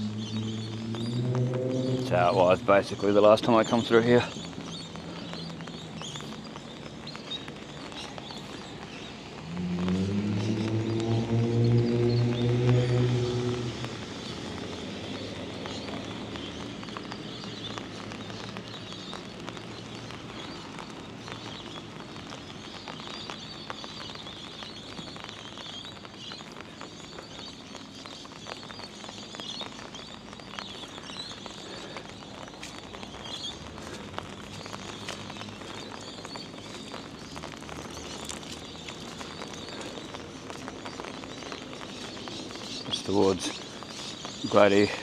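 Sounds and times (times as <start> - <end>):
birds chirping: 0.0 - 45.0
rain hissing: 0.0 - 45.0
raindrop ticks: 0.0 - 45.0.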